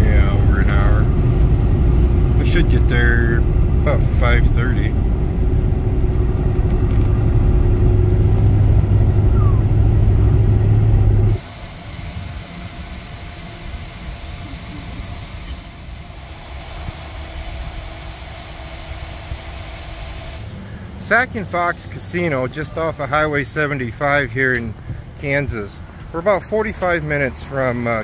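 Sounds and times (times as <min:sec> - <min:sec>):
quiet outdoor background hum: 0:00.0 - 0:28.0
vehicle cabin engine and road drone: 0:00.0 - 0:28.0.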